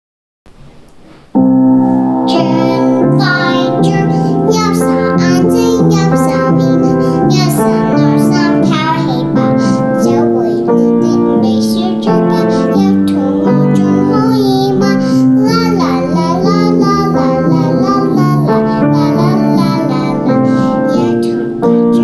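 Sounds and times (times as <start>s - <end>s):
piano-led backing track: 0.6s - 22.0s
young girl singing: 2.1s - 22.0s.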